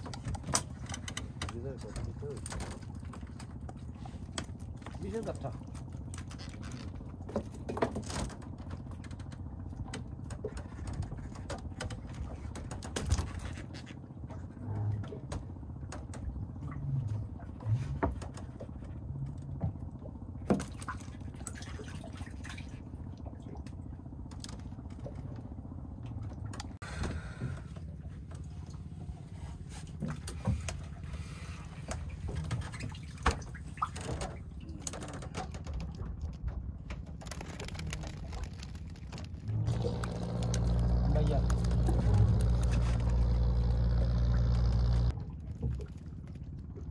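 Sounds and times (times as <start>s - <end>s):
boat engine rumbling: 0.0s - 46.9s.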